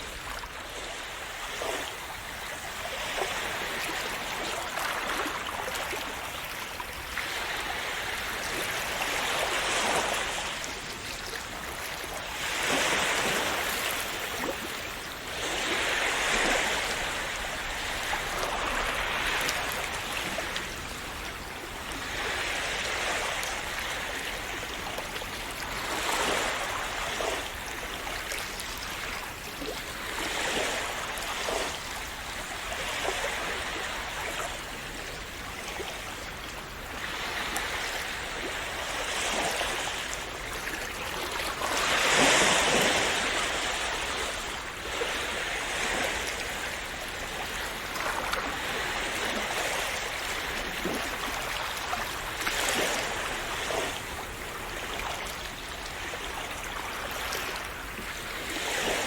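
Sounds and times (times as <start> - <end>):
small waves washing onto shore: 0.0 - 59.0.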